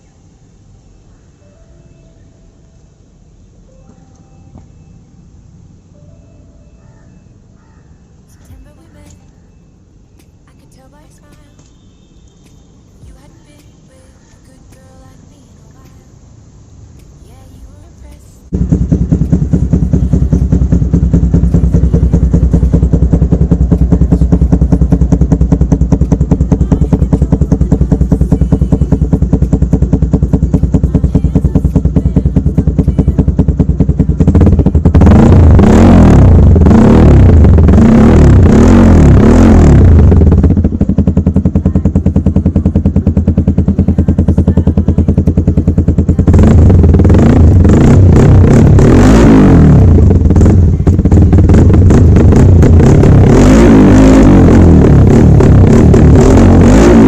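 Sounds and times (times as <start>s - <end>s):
motorcycle engine idling and revving: 0.8s - 57.0s.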